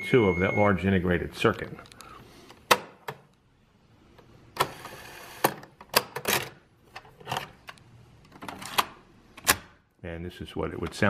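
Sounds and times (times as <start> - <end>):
faint steady noise: 0.0 - 11.0.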